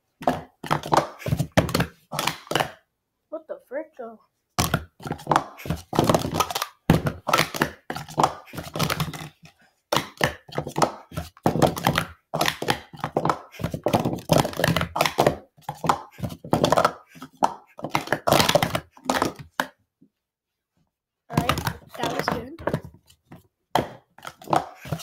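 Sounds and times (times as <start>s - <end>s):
plastic cups clattering: 0.2s - 2.8s, 4.6s - 19.8s, 21.3s - 25.0s.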